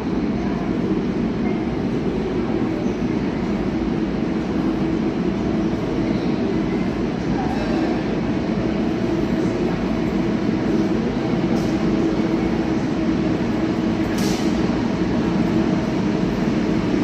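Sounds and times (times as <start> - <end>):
tram motor hum: 0.0 - 17.0
tram rolling noise: 0.0 - 17.0.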